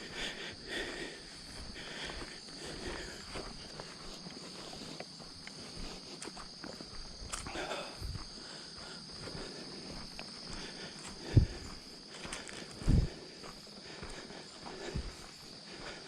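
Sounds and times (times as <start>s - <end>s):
crickets chirping: 0.0s - 16.0s
footsteps on a trail: 0.0s - 16.0s.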